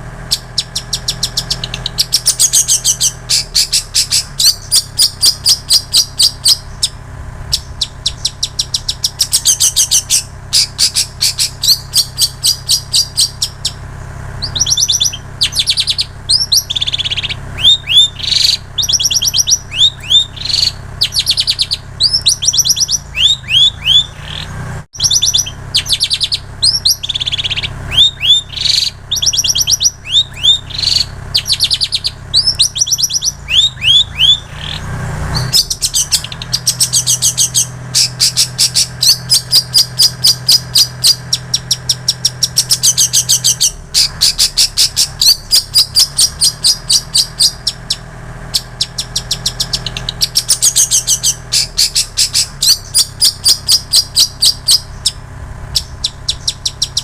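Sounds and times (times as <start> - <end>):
bird singing: 0.0 - 57.0
steady low hum: 0.0 - 57.0.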